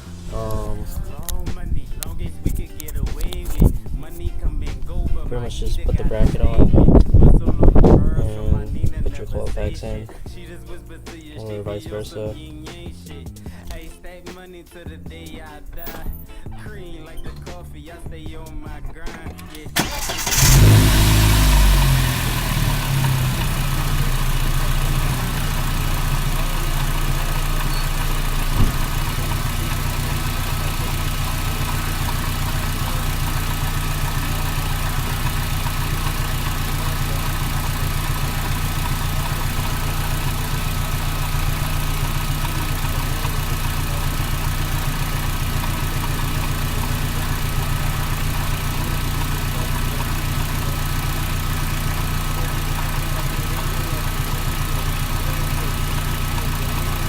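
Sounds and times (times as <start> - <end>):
car engine starting and idling: 0.0 - 57.0.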